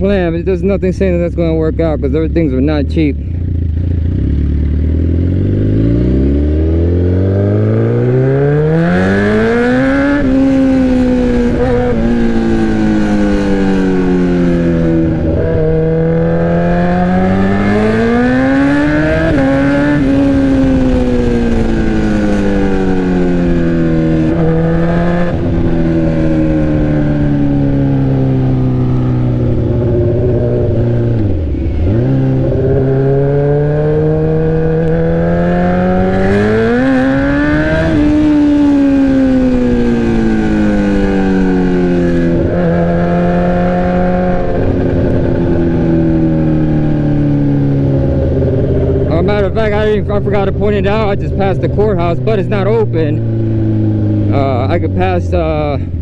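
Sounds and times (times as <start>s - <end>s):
sport bike engine accelerating: 0.0s - 56.0s.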